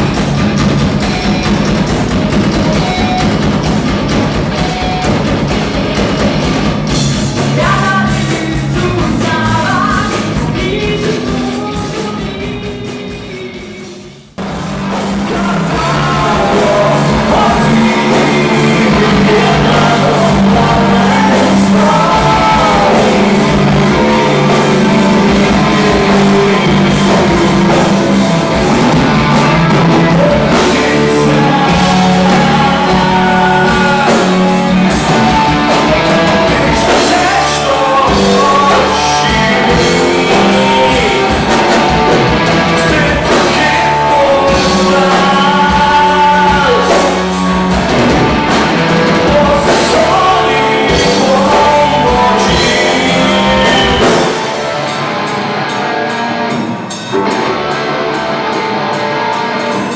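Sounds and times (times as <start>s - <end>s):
live rock band with singing: 0.0s - 59.9s
man singing over rock music: 6.9s - 14.2s, 14.8s - 59.9s.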